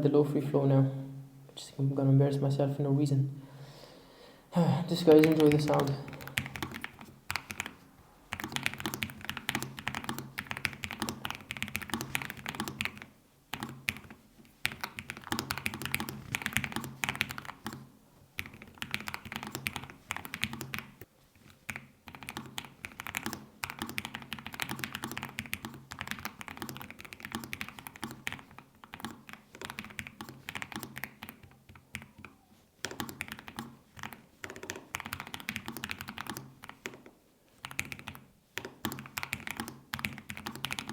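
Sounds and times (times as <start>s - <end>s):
fast typing on mechanical keyboard: 5.1s - 40.9s.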